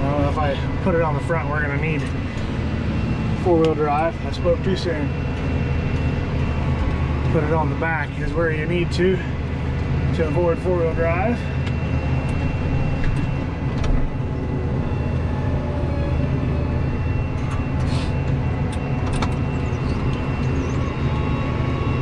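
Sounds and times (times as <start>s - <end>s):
tractor engine from inside cab: 0.0s - 22.0s.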